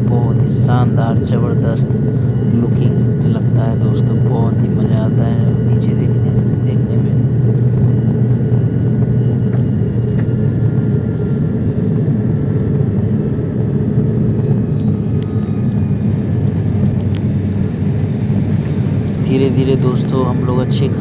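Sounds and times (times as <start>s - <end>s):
airliner engines in cabin: 0.0s - 21.0s.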